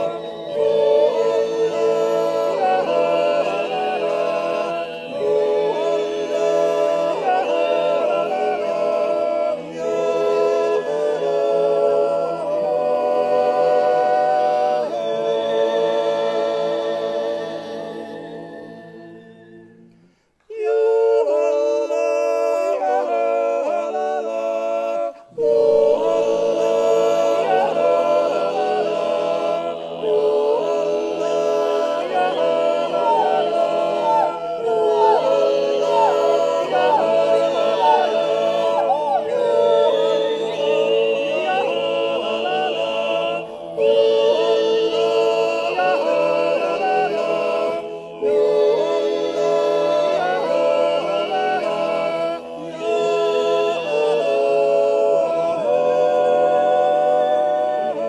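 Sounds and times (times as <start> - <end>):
men's choir singing in harmony: 0.0 - 58.0.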